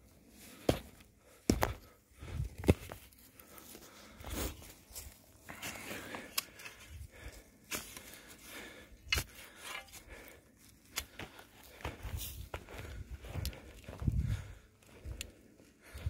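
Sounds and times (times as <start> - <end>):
footsteps on loose soil and grass: 0.2 - 16.0.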